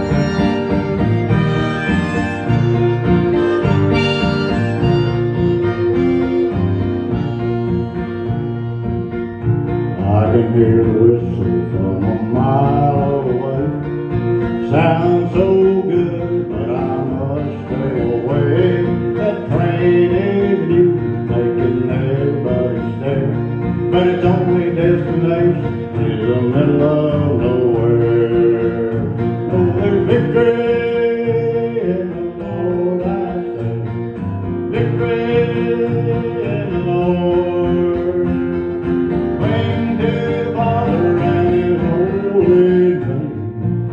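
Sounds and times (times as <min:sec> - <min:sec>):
acoustic guitar strumming: 0:00.0 - 0:43.9
electric bass guitar: 0:00.0 - 0:43.9.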